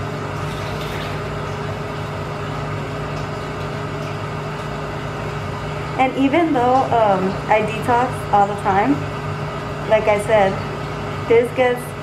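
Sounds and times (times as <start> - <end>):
machinery humming with faint tone: 0.0 - 12.0.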